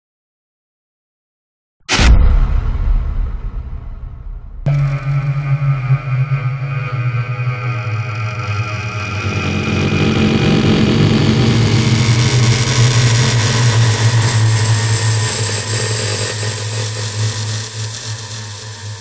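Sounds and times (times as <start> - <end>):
dark ambient droning rumble: 2.4 - 19.0.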